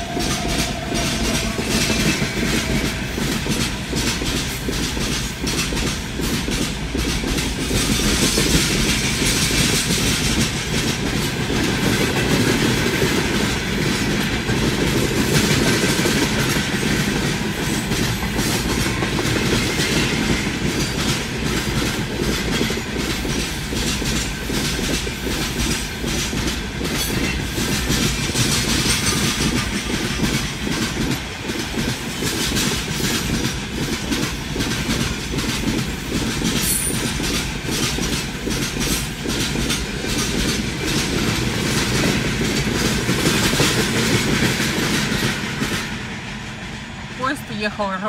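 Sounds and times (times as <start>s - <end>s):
train wheels clattering over rail joints: 0.0s - 46.7s
freight train rumbling past: 0.0s - 48.0s.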